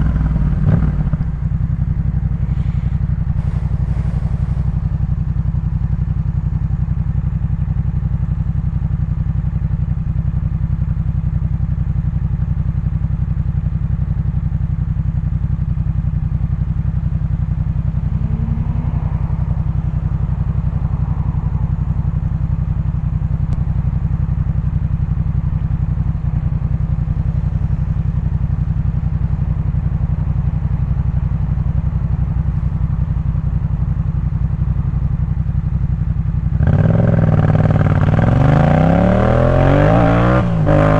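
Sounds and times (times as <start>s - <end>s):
motorcycle engine at low revs: 0.0s - 40.9s.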